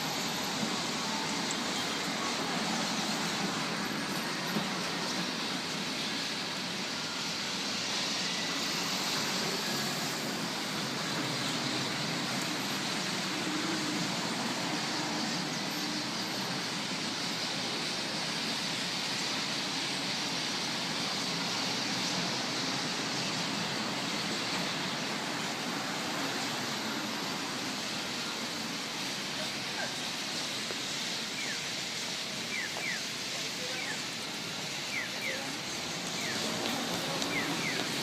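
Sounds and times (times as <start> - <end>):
road traffic hum: 0.0 - 38.0.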